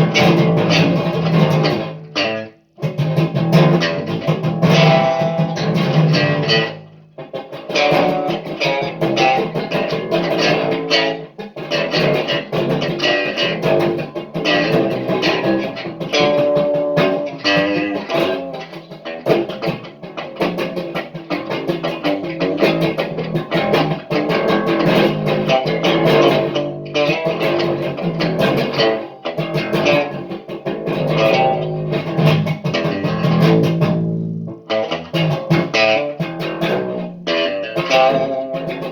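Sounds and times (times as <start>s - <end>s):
guitar quickly picked notes: 0.0s - 38.9s.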